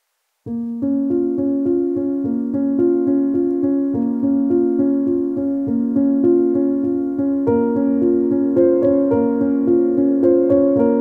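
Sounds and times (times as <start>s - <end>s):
gentle piano music: 0.4s - 11.0s.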